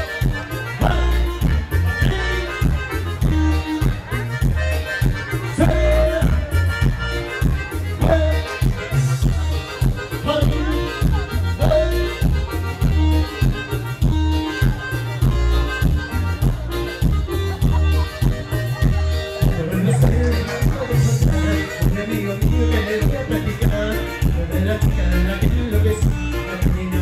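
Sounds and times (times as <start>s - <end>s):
accordion-like keyboard melody: 0.0s - 27.0s
latin dance band playing: 0.0s - 27.0s
pulsing bass and percussion: 0.0s - 27.0s.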